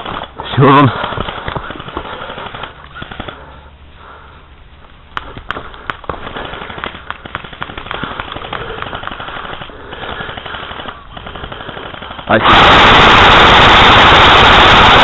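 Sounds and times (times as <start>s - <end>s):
airsoft guns firing: 0.0s - 3.6s, 5.1s - 15.0s.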